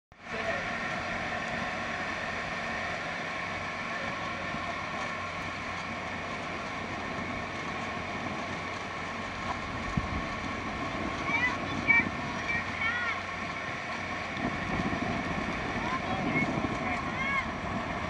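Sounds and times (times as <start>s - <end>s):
boat engine droning: 0.1s - 18.0s
water rushing past hull: 0.1s - 18.0s.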